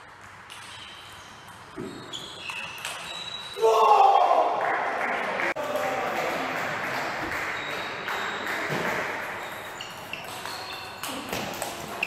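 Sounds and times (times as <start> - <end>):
sports hall background noise: 0.0 - 12.0.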